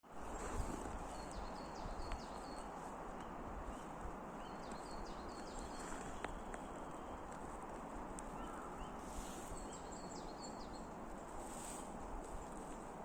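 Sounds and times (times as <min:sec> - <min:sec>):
small songbirds chirping: 0:00.2 - 0:07.5, 0:08.2 - 0:11.4.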